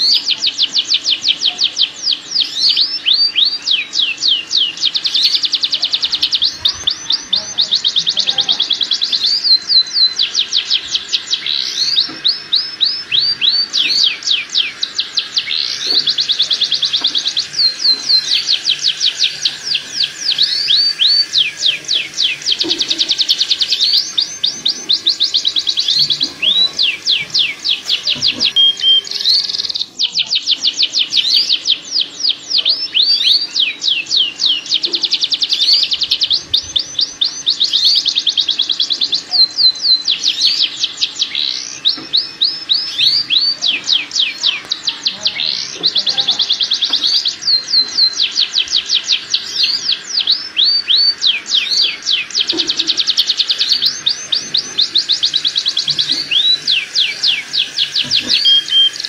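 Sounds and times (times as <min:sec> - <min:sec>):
canary song trills: 0:00.0 - 0:59.0.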